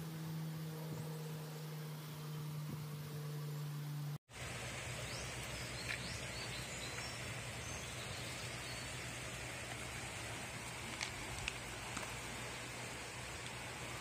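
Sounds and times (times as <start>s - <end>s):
low hum: 0.0s - 14.0s
outdoor background hiss: 0.0s - 14.0s.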